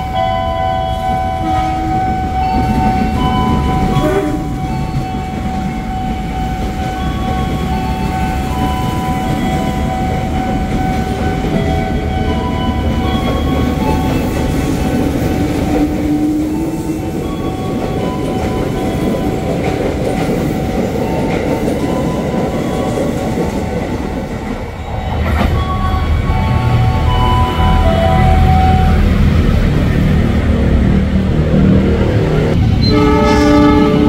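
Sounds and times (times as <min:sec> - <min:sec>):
train approaching: 0:00.0 - 0:34.0.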